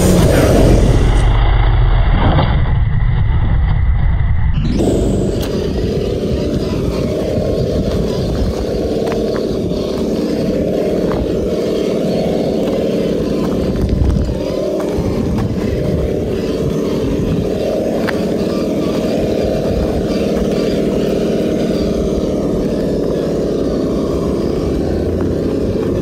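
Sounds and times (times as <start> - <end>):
simulated engine rumble: 0.0 - 26.0.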